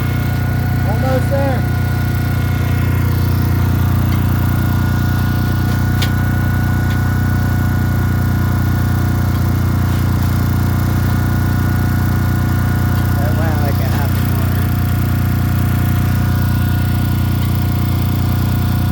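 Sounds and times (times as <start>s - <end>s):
construction machinery hum: 0.0s - 18.9s
steady machine whine: 0.0s - 18.9s.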